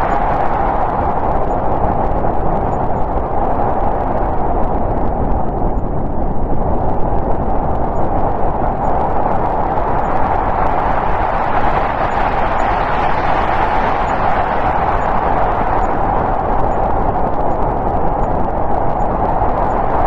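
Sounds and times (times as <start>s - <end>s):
howling wind: 0.0s - 20.0s.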